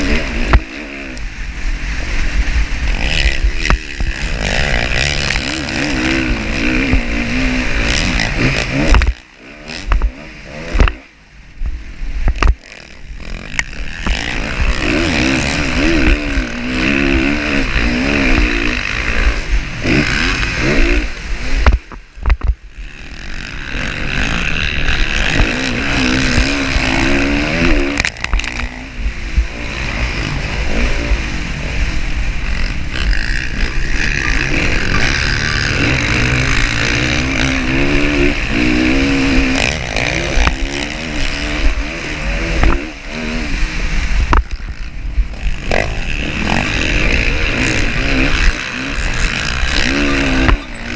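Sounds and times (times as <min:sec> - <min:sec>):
motocross motorcycle engines revving: 0:00.0 - 0:50.9.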